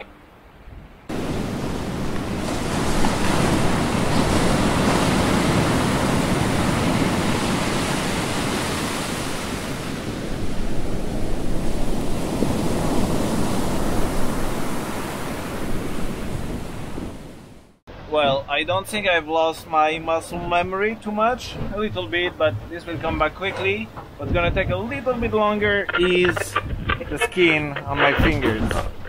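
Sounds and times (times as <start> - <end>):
water rushing past sailboat: 0.0 - 29.0
wind blowing on the microphone: 0.6 - 19.0, 21.4 - 29.0.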